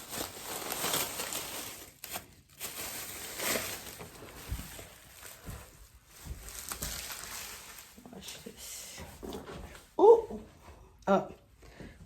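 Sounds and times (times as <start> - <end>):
rustling and handling noises: 0.0 - 10.8.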